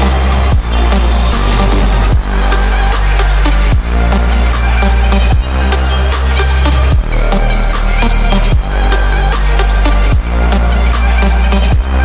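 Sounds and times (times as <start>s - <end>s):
electronic dance music: 0.0s - 12.0s
sharp bass sweep: 0.0s - 12.0s.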